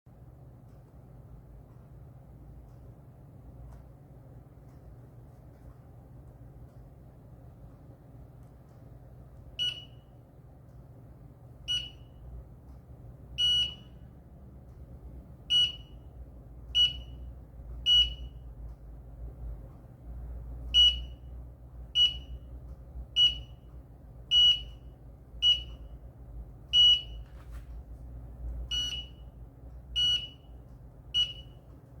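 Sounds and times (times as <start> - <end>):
low steady hum: 0.1 - 32.0.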